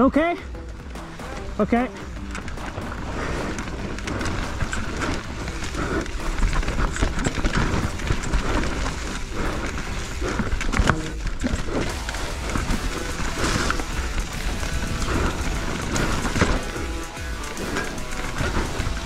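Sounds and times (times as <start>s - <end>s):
bike clattering over rocks: 2.0s - 19.0s.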